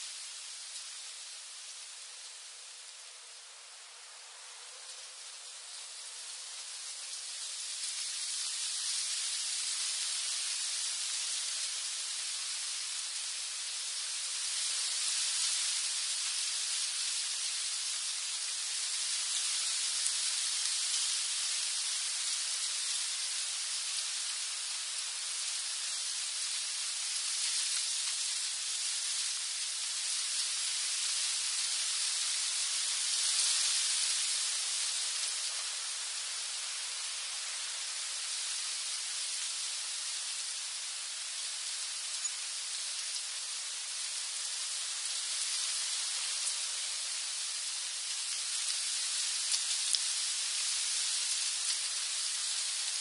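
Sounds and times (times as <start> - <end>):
wind through tree leaves: 0.0 - 53.0.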